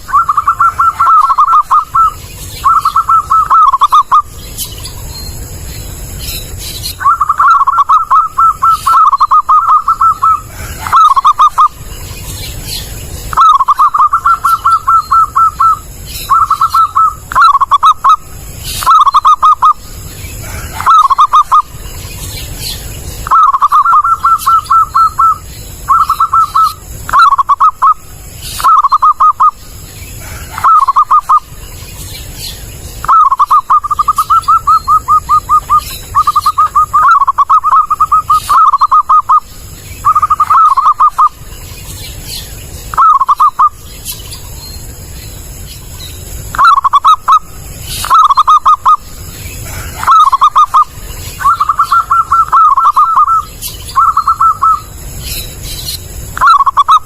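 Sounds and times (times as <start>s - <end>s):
dove cooing: 0.0s - 4.3s, 6.5s - 11.9s, 12.5s - 21.8s, 22.5s - 31.6s, 32.3s - 41.5s, 42.9s - 43.8s, 46.5s - 55.0s, 56.3s - 57.0s.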